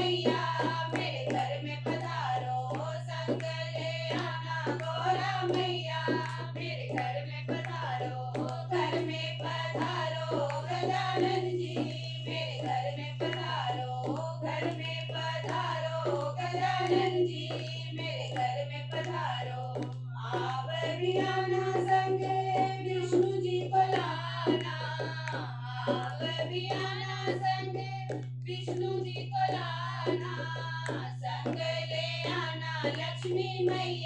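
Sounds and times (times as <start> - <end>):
constant low hum: 0.0 - 34.0
hand clapping: 0.0 - 34.0
hand drum beat: 0.0 - 34.0
women and girl singing in chorus: 0.0 - 34.0.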